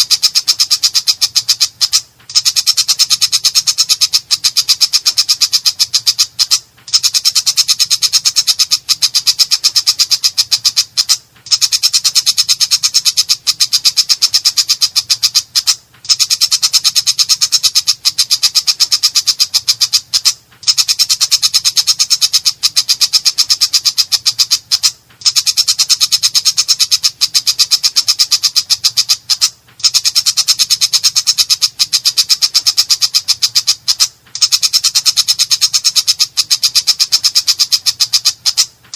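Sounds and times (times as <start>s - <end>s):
bird harsh rapid chattering: 0.0s - 38.9s.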